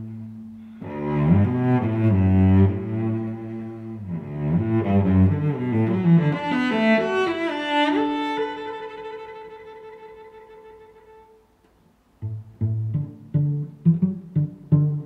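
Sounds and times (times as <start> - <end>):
string music: 0.0 - 11.5, 12.1 - 15.0.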